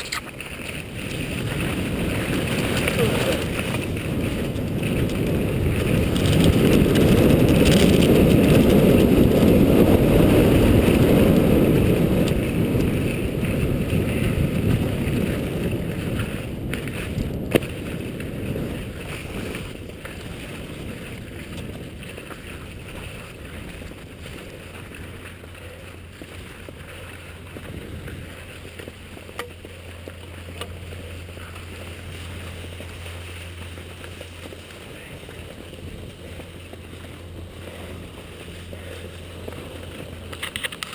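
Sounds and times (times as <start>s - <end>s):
low rumble: 0.0s - 40.9s
skis sliding on slushy snow: 0.0s - 40.9s.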